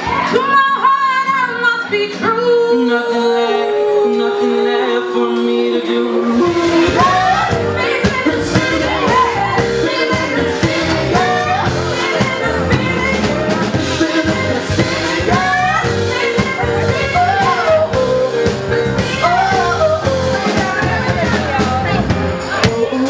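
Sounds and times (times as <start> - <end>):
drums: 0.0 - 23.0
person singing: 0.1 - 23.0.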